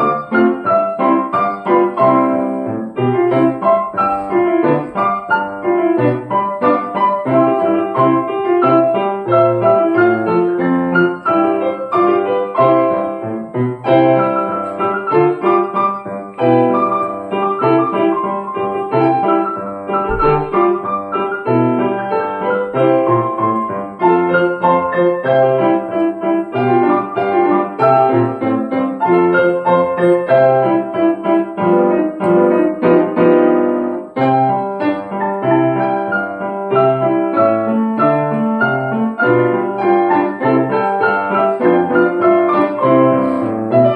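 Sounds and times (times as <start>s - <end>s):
piano duet: 0.0s - 43.9s.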